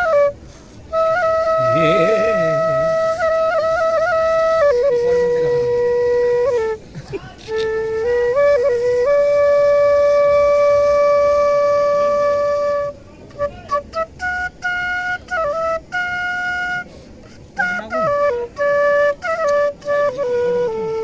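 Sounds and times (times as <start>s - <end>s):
bamboo flute melody: 0.0s - 21.0s.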